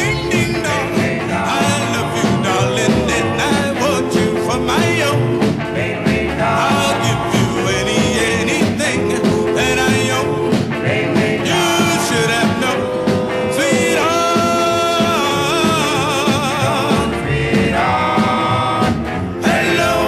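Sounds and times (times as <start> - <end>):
rhythm and blues band: 0.0 - 20.0
vocal group singing harmonies: 0.0 - 20.0.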